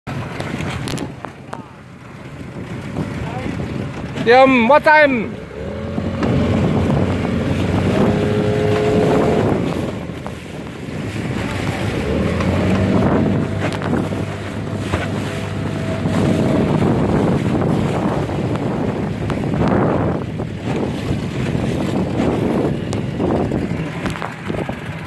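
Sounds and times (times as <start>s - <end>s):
motorboat engine: 0.1s - 25.0s
water noise: 0.1s - 25.0s
wind buffeting microphone: 0.1s - 25.0s.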